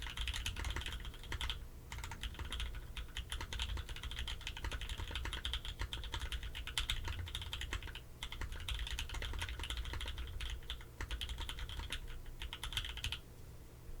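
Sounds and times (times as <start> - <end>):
mechanical keyboard typing: 0.0 - 13.2.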